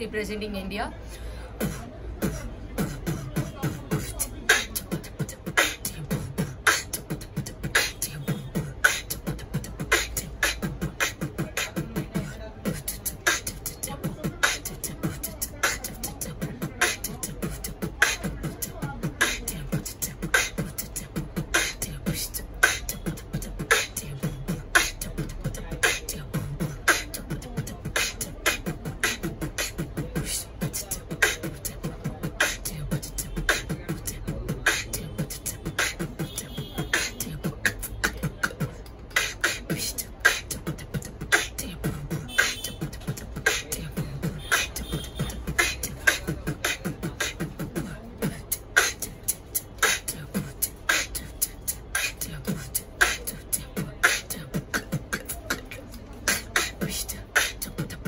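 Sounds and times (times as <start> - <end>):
high-pitched vocal effects: 0.9 - 58.0
person beatboxing: 0.9 - 58.0.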